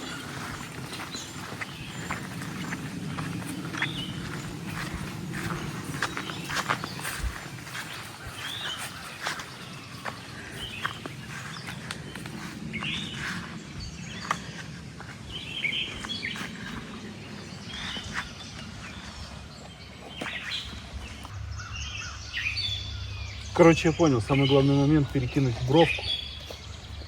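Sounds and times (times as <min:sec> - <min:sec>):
birds chirping: 0:00.0 - 0:27.0
low outdoor background noise: 0:00.0 - 0:27.0.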